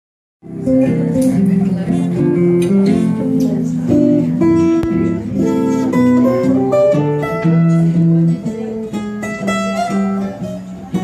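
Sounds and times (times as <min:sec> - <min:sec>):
acoustic guitar playing: 0:00.4 - 0:11.0
electric guitar playing: 0:00.4 - 0:11.0.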